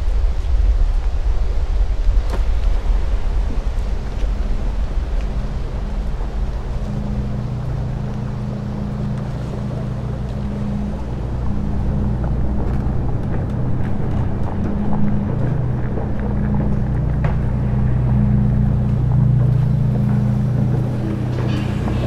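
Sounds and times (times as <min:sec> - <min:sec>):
deep droning hum: 0:00.0 - 0:22.0.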